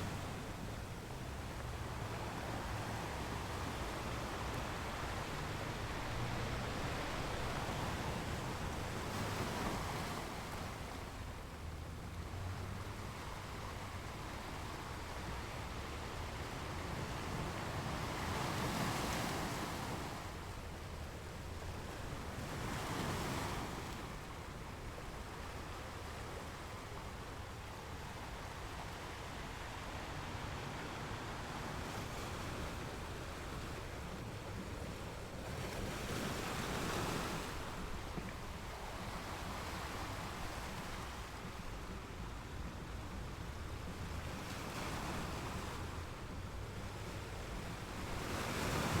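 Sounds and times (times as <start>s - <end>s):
large waves breaking: 0.0s - 49.0s
ocean waves washing ashore: 0.0s - 49.0s.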